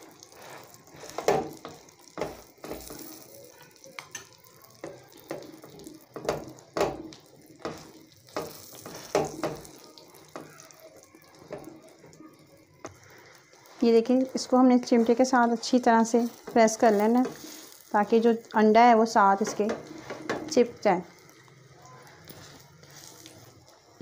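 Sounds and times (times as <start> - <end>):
egg batter sizzling: 0.0 - 24.0.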